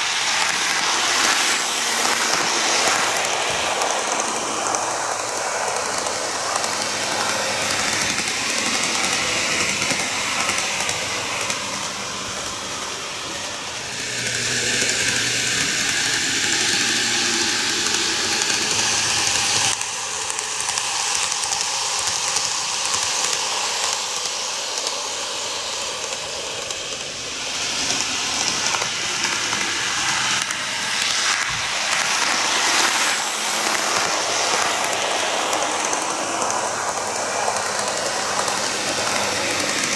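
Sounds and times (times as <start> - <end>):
model train rolling on rails: 0.0 - 39.9.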